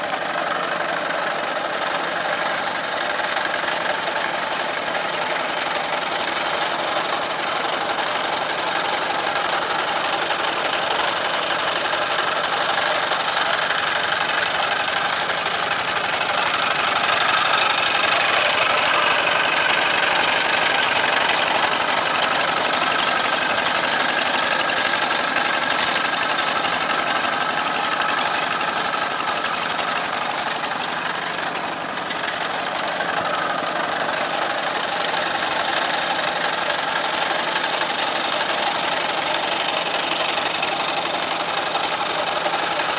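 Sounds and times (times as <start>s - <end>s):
diesel tractor engine running: 0.0s - 42.9s.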